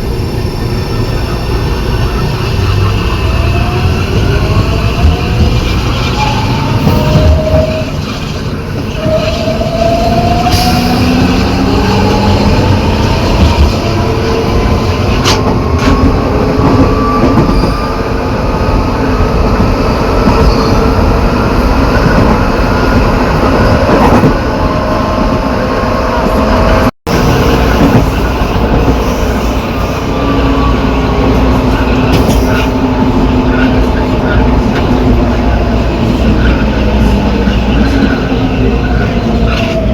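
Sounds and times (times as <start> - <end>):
train braking: 0.0 - 39.9.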